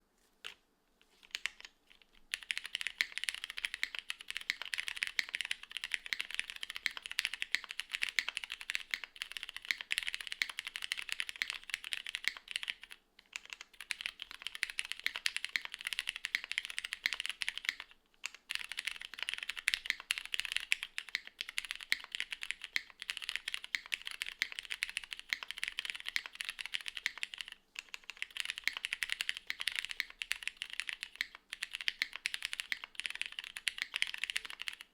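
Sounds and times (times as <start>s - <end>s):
mechanical keyboard typing: 1.2s - 34.9s.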